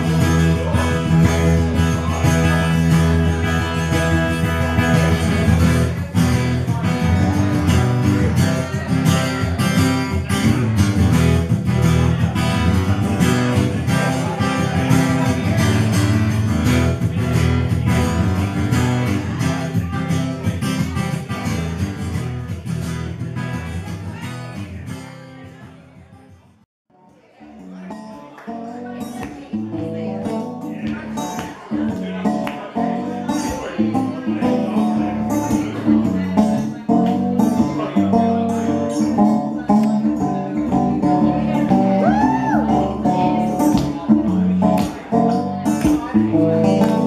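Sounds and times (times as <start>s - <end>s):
acoustic guitar strumming: 0.0s - 26.4s, 27.1s - 47.0s.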